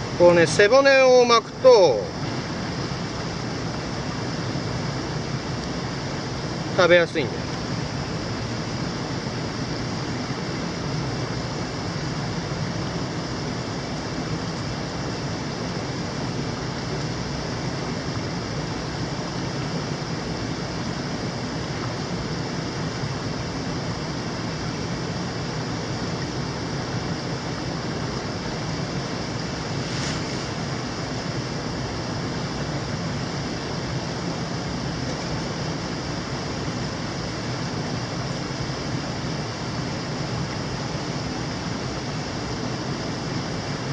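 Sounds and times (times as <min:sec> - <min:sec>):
mountain stream flowing: 0:00.0 - 0:43.9.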